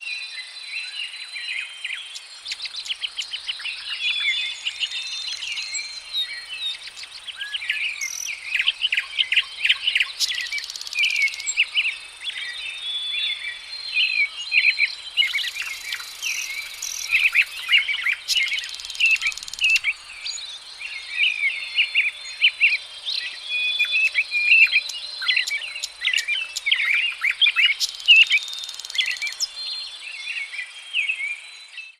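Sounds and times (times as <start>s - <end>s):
songbirds chirping: 0.0s - 31.9s
high insect trill: 2.3s - 29.8s.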